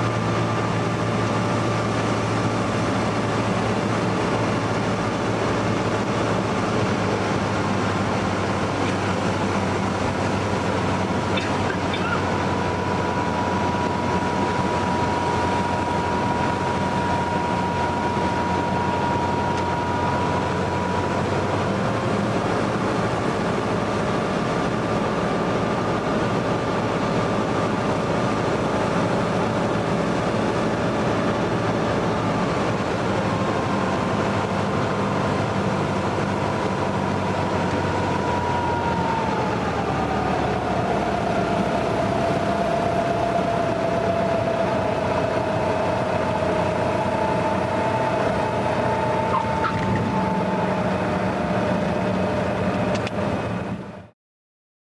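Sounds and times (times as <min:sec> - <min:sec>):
propeller plane engine in cabin: 0:00.0 - 0:54.1.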